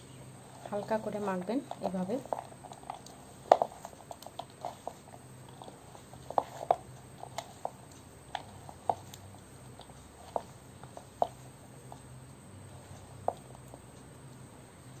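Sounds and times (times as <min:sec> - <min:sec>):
hand squeezing soft filling: 0:00.0 - 0:15.0.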